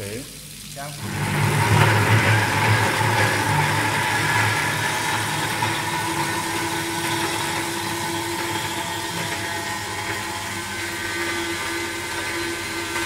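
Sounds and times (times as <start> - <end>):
tap water pouring into drain: 0.1 - 13.0
food waste disposer motor hum: 0.9 - 13.0.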